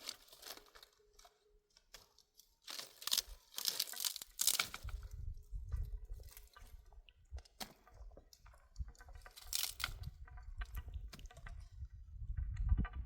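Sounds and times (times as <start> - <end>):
twigs crackling and crunching: 0.0 - 11.9.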